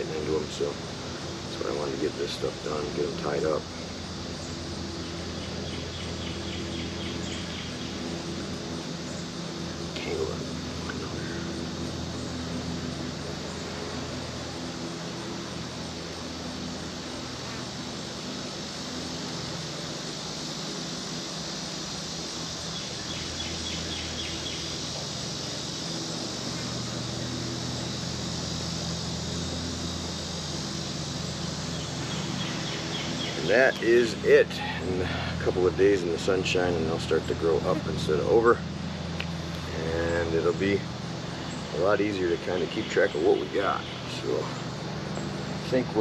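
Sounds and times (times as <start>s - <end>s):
insects buzzing: 0.0s - 46.0s
rapid chirping: 3.6s - 46.0s.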